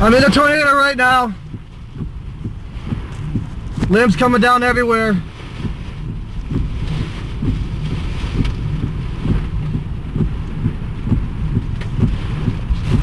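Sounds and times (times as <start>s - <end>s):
short knocks and thumps: 0.0s - 4.2s, 5.6s - 13.0s
wind buffeting microphone: 0.0s - 13.0s.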